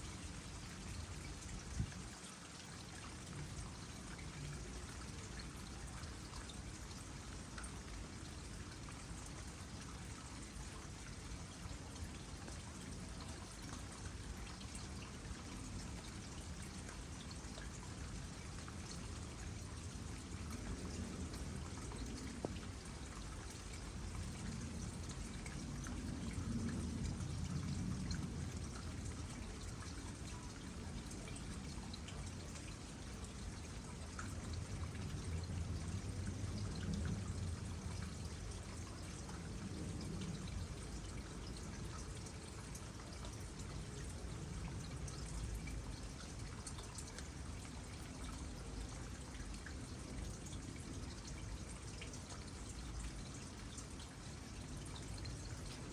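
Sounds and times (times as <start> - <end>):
low wash of water: 0.0 - 55.9
small water drips: 0.0 - 55.9
water trickling into pond: 0.0 - 55.9.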